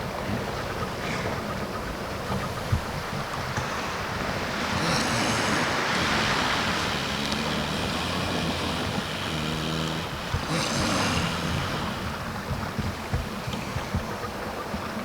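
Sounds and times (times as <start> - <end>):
steady surf: 0.0 - 15.0
elephant seals snoring: 0.9 - 15.0.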